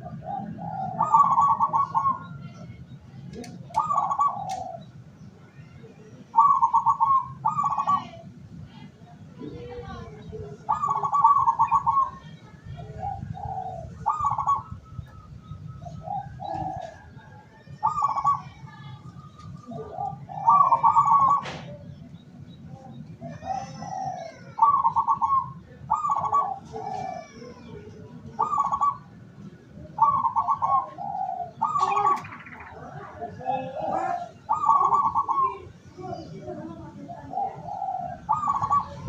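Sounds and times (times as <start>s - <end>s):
doves cooing: 0.0s - 2.6s, 3.3s - 5.2s, 6.1s - 8.5s, 9.4s - 39.0s.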